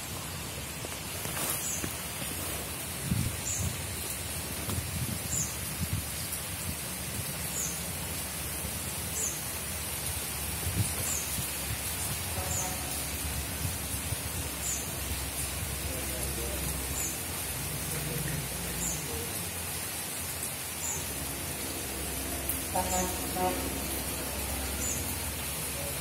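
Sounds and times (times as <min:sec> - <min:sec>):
watery hiss: 0:00.0 - 0:26.0.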